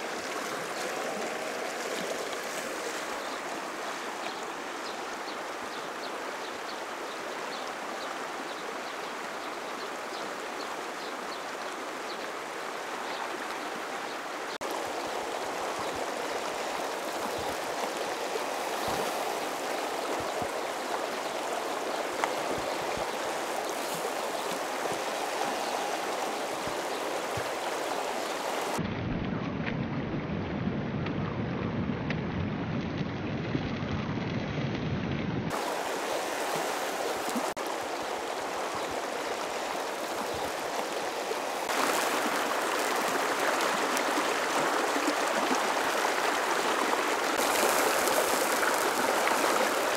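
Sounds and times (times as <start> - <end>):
river rushing over stones: 0.0 - 28.8, 35.5 - 49.9.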